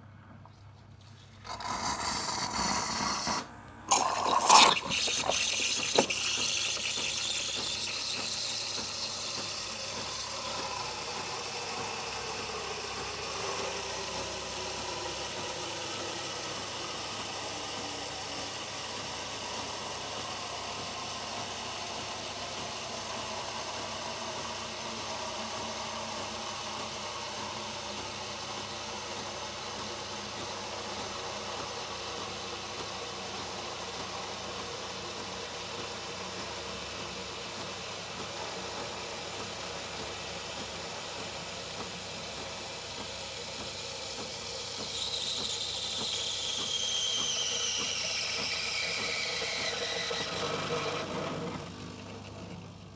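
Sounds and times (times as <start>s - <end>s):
milk frothing nozzle hissing: 1.4s - 52.8s.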